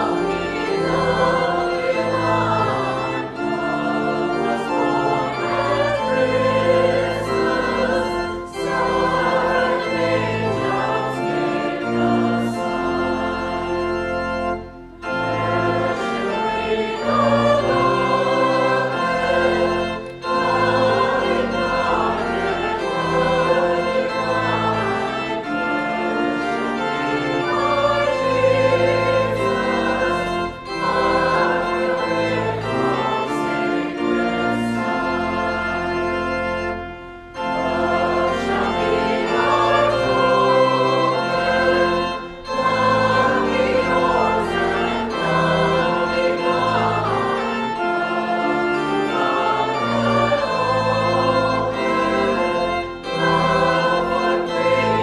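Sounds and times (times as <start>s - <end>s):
congregation singing a hymn: 0.0s - 55.0s
organ chords: 0.0s - 55.0s.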